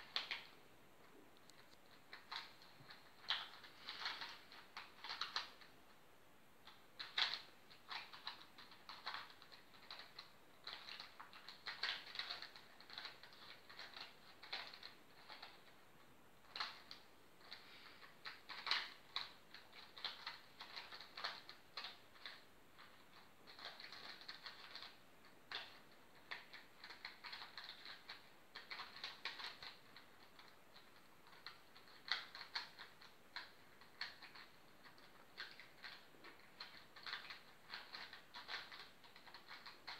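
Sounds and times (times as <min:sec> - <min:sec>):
puzzle cube clicking: 0:00.0 - 0:00.5, 0:01.4 - 0:05.7, 0:06.7 - 0:15.8, 0:16.4 - 0:39.9.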